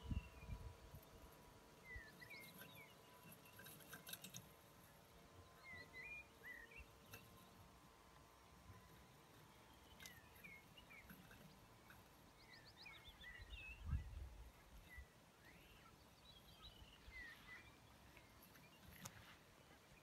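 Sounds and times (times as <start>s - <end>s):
songbird chirps and twitters: 0.0s - 20.0s.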